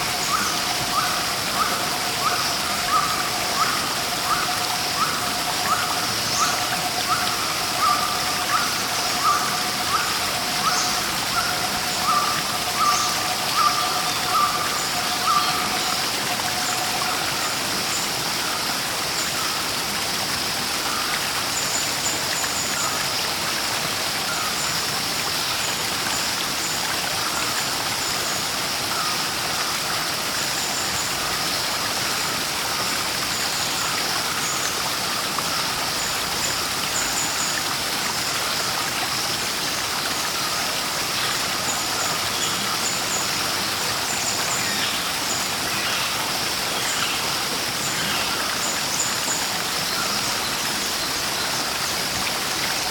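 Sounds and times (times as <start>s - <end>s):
water rushing: 0.0s - 52.9s.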